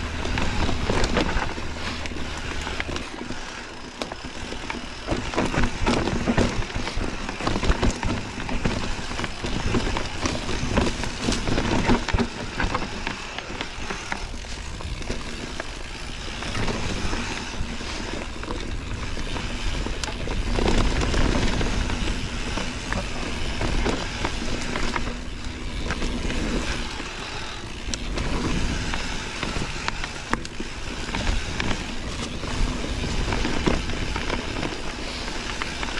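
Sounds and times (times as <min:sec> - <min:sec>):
bike clicks and rattles: 0:00.0 - 0:35.9
bike tyres on dirt: 0:00.0 - 0:35.9.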